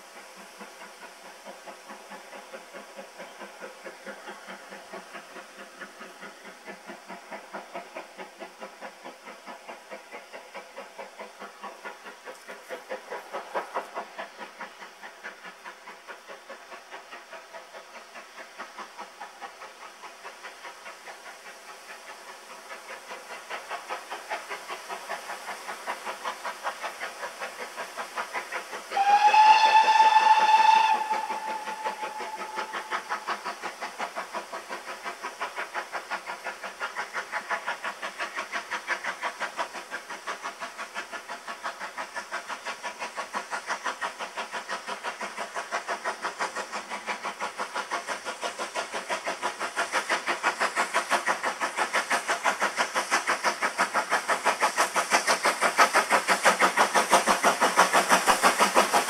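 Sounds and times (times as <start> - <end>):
steam locomotive exhaust beats: 0.0 - 59.0.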